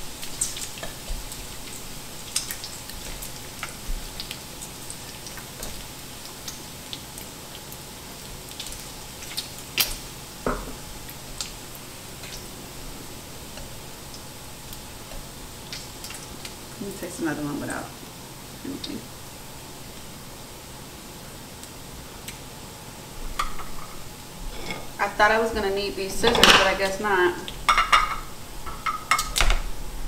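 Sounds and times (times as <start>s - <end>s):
food sizzling on griddle: 0.0s - 30.0s.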